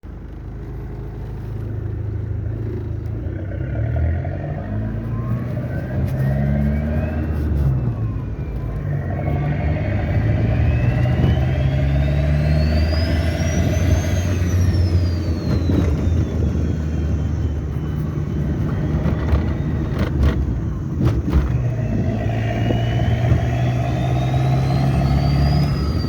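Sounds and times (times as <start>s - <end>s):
car engine drone: 0.0s - 26.0s
turbocharger whistling: 3.4s - 26.0s.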